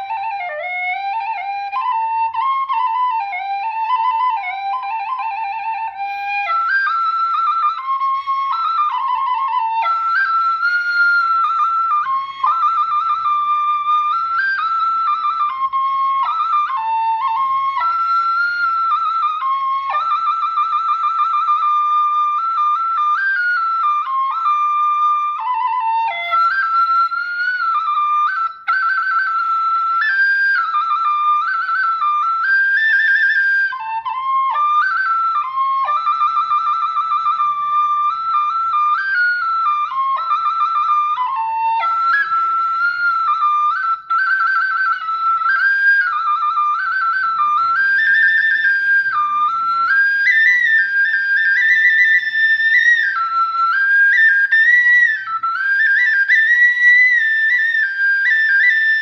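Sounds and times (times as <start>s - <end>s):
bamboo flute melody: 0.0s - 59.0s.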